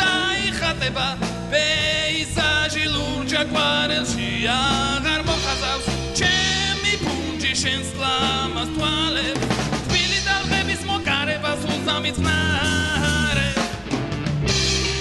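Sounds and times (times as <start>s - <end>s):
man singing: 0.0s - 13.8s
drums: 0.0s - 15.0s
rock band playing: 0.0s - 15.0s.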